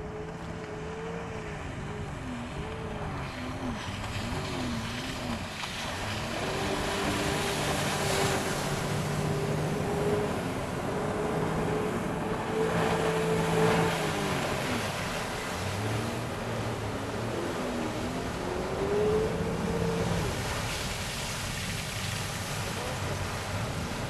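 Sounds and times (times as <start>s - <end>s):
jet ski engine: 0.0s - 24.0s
rushing water and wind: 0.0s - 24.0s.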